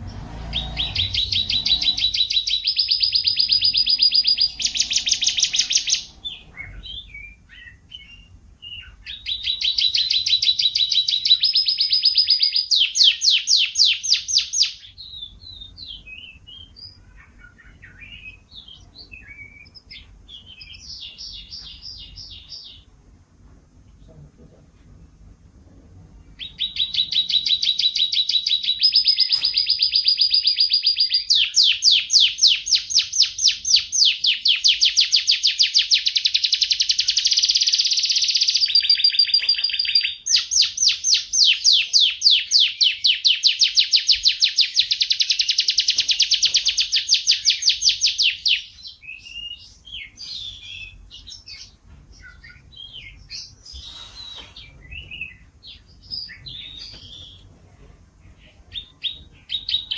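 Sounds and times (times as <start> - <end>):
canary singing trills: 0.0 - 23.0, 26.1 - 57.5, 58.2 - 59.9
canary chirps: 0.0 - 23.4, 26.1 - 57.5, 58.2 - 59.9.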